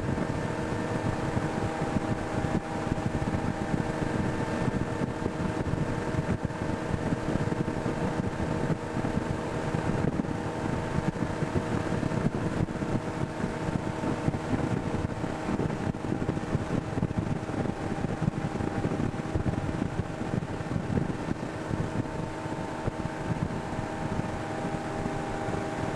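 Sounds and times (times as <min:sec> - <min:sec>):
boat engine drone: 0:00.0 - 0:25.9
wind buffeting microphone: 0:00.0 - 0:25.9.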